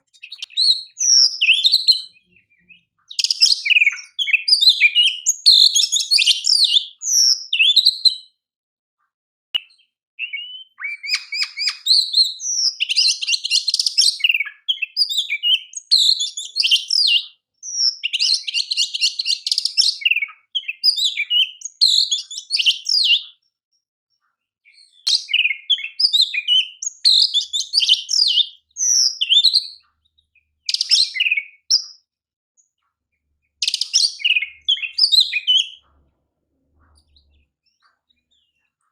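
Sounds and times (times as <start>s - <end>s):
bird singing whistles and chirps: 0.0s - 8.4s, 9.6s - 23.5s, 24.2s - 36.0s, 36.7s - 38.9s.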